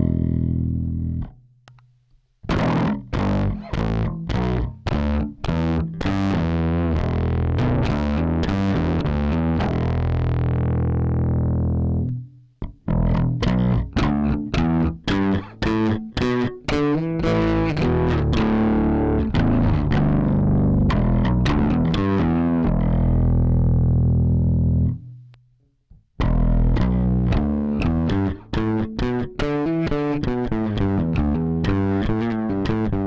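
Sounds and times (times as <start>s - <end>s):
distorted electric bass: 0.0s - 1.4s, 2.4s - 25.4s, 26.2s - 33.0s.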